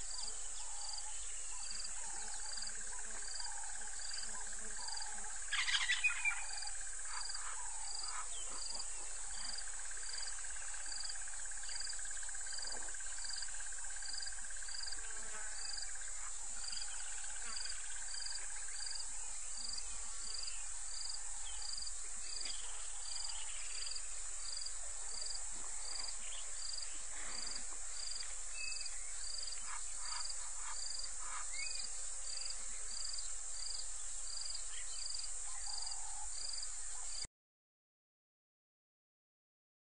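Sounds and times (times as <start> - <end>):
bird calls: 0.0 - 24.1, 24.7 - 33.3, 34.5 - 37.3
high insect hiss: 0.0 - 37.3.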